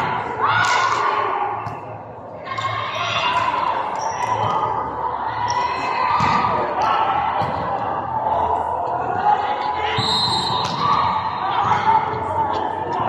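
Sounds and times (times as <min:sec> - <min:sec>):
players shouting in echoing hall: 0:00.0 - 0:13.0.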